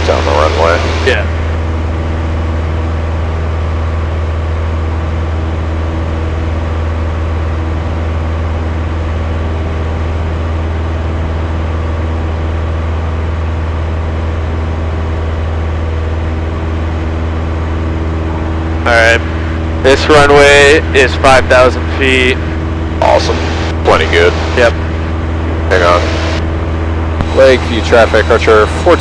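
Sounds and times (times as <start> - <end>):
airplane engine droning in cabin: 0.0 - 29.0.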